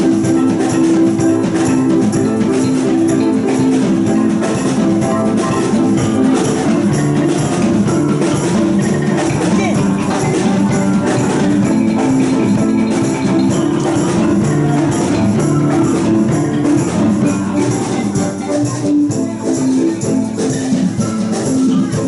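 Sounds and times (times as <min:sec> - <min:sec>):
music with steady beat: 0:00.0 - 0:22.0.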